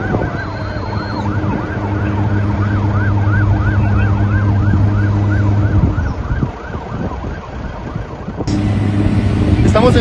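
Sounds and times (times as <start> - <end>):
steady low drone: 0.0 - 6.9, 8.4 - 10.0
emergency siren yelping: 0.0 - 10.0.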